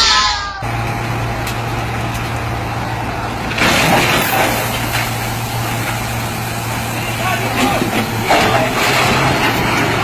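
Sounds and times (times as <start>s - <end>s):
heavy truck engine hum: 0.0s - 10.0s.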